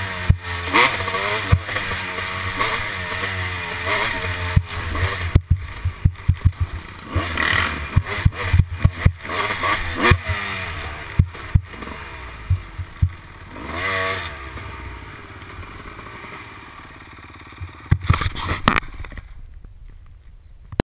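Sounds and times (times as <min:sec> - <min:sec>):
dirt bike engine revving: 0:00.0 - 0:19.2
knocks and clatter over bumps: 0:00.2 - 0:13.6, 0:17.4 - 0:20.8.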